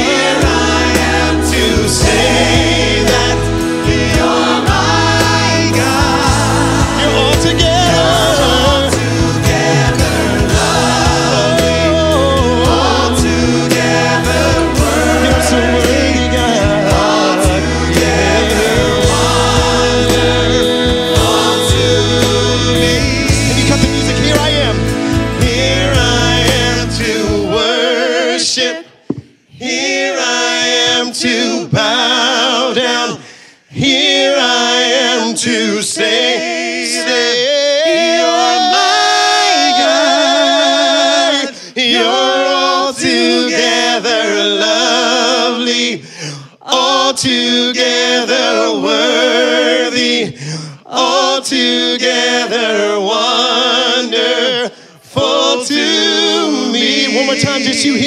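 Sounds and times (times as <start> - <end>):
voices singing in harmony: 0.0 - 58.0.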